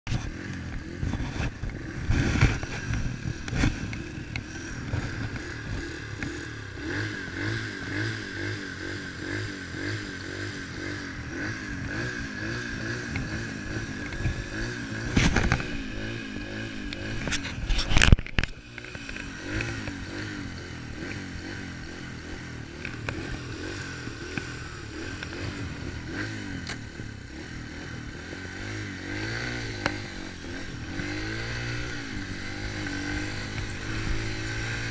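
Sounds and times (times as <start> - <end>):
dirt bike engine idling: 0.1 - 34.9.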